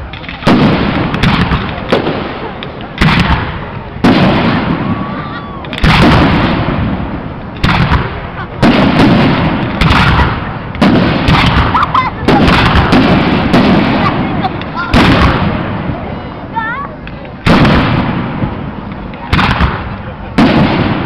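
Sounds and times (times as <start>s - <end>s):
firework booms with echo: 0.1s - 16.1s, 17.4s - 21.0s.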